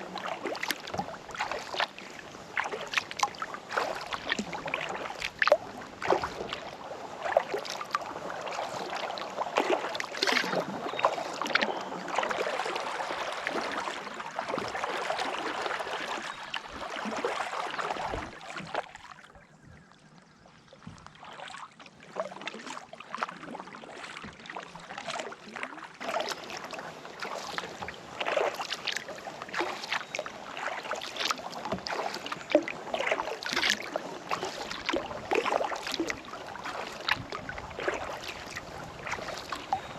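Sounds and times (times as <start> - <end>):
paddle blades splashing: 0.0 - 39.9
water dripping off paddle: 0.1 - 19.2, 24.0 - 39.9.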